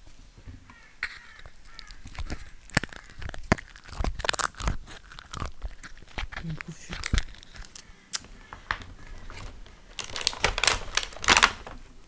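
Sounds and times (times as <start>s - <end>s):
slime being squished: 0.8s - 11.8s.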